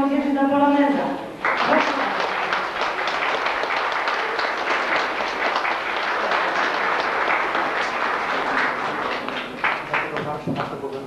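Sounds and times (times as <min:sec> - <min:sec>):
crowd applauding: 0:01.4 - 0:10.9.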